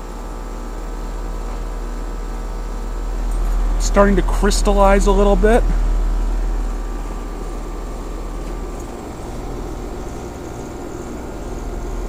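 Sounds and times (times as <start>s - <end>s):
heat pump compressor and fan hum: 0.0s - 12.0s.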